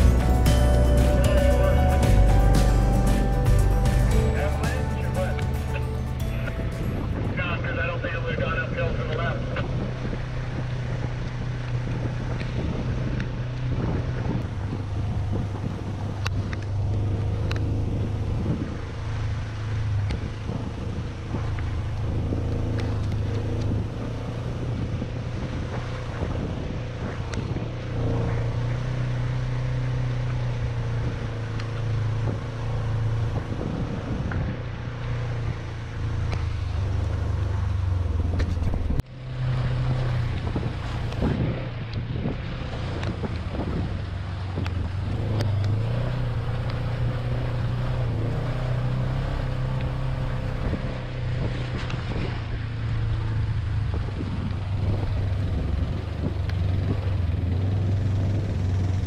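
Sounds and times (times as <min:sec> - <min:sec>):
utility vehicle engine running: 0:00.0 - 0:59.0
wind buffeting microphone: 0:06.5 - 0:28.7, 0:30.9 - 0:59.0.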